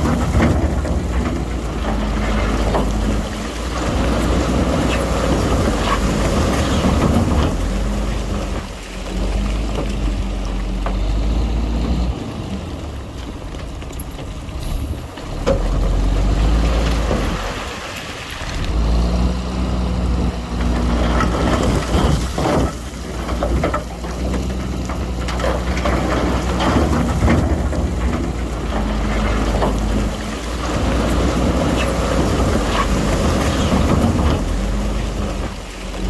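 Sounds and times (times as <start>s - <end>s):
bulldozer diesel engine under load: 0.0s - 36.0s
rock and soil crunching rattle: 0.0s - 36.0s.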